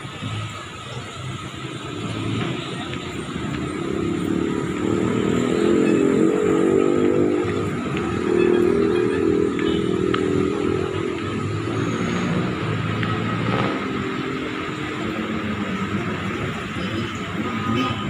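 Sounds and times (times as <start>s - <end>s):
vehicle engine passing: 1.8s - 17.4s.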